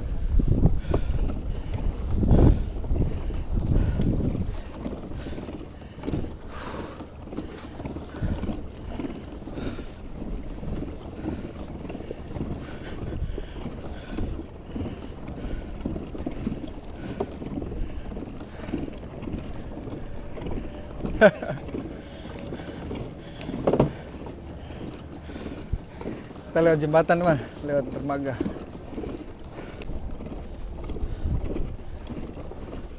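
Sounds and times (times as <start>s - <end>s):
water sloshing along hull: 0.0s - 32.9s
wind on microphone: 0.0s - 32.9s.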